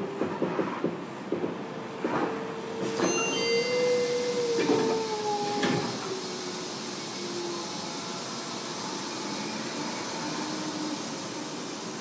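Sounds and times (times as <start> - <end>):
train wheels and air rumbling: 0.0 - 12.0.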